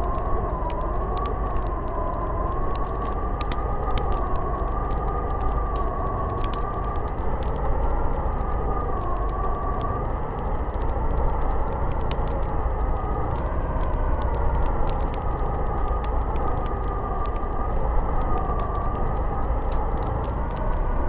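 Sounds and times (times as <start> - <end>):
faint ticks: 0.0 - 21.0
howling snowstorm wind: 0.0 - 21.0.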